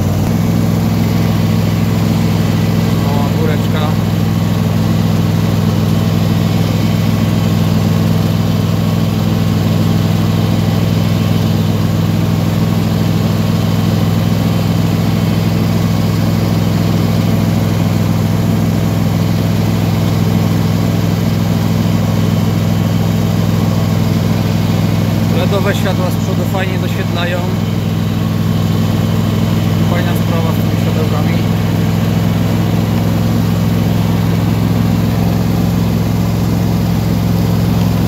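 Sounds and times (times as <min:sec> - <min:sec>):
garden tractor engine droning: 0:00.0 - 0:38.0.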